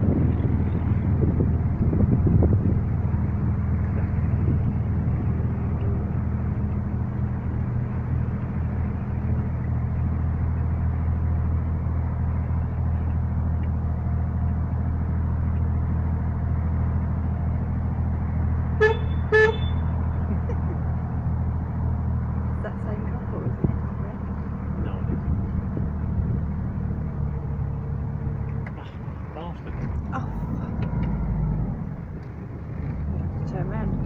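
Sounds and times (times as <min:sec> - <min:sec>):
engine running at low speed: 0:00.0 - 0:34.0.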